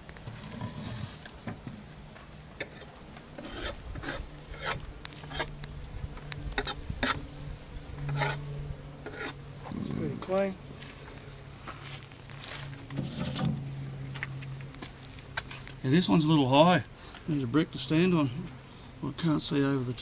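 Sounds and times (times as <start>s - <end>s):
honey bees humming: 0.0s - 20.0s
wooden hive parts scraping: 0.0s - 20.0s.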